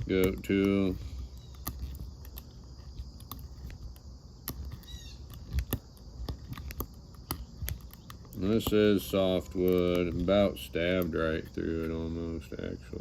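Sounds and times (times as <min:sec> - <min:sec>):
awl clicking and tapping on wood: 0:00.0 - 0:12.0
bird chirp: 0:00.2 - 0:13.0.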